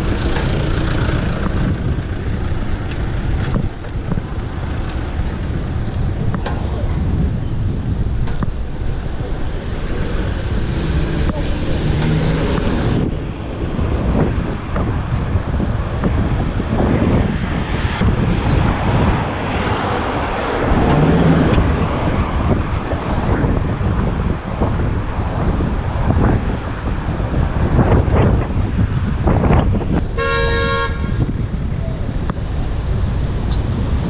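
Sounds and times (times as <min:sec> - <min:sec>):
road and traffic noise: 0:00.0 - 0:34.0
wind buffeting microphone: 0:00.0 - 0:34.0.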